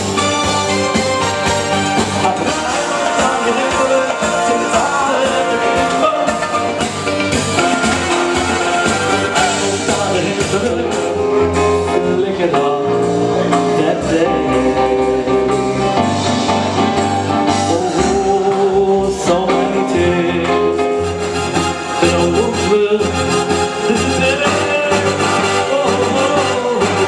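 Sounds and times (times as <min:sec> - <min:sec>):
keyboard and drums: 0:00.0 - 0:27.0
man singing into microphone: 0:02.2 - 0:16.0, 0:17.5 - 0:21.2, 0:21.8 - 0:27.0.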